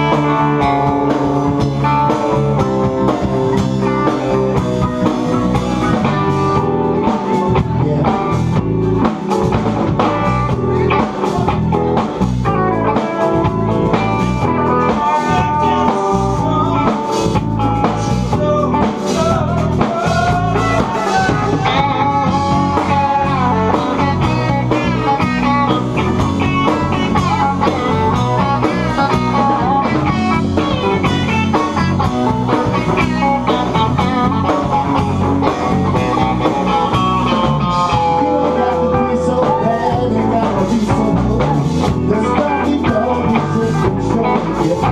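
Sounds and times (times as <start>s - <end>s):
blues-rock band playing: 0.0s - 44.9s.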